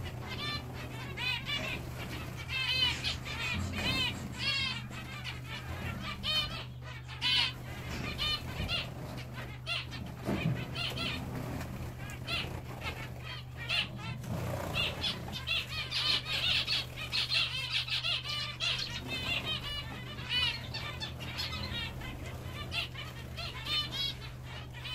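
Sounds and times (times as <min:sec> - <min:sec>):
finches chirping: 0:00.0 - 0:24.9
wings fluttering: 0:00.0 - 0:24.9.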